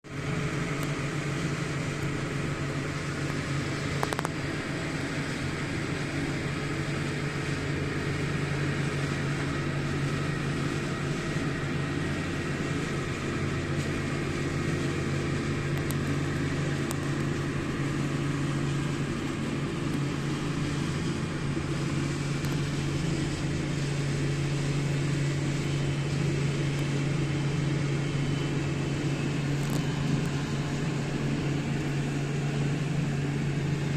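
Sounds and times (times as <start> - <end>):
low motor hum: 0.0 - 33.9.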